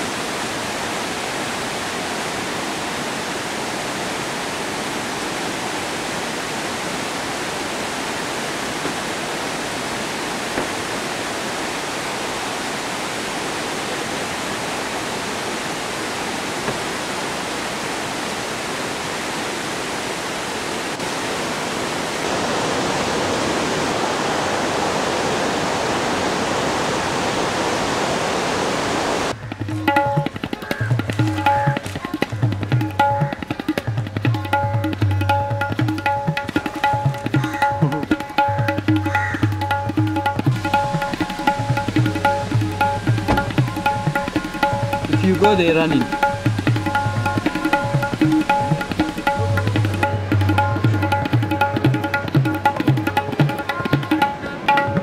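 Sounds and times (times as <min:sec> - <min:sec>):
waterfall rushing: 0:00.0 - 0:34.6, 0:35.2 - 0:55.0.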